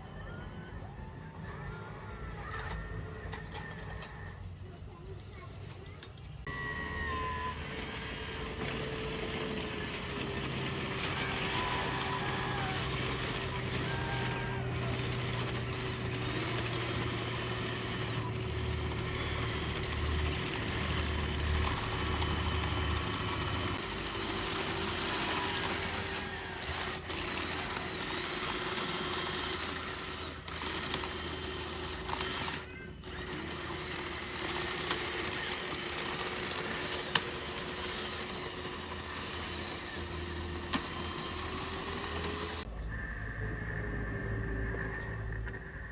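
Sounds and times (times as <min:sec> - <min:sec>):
higher-pitched motor whines: 0:06.4 - 0:45.9
steady electric motor whine: 0:06.4 - 0:45.9.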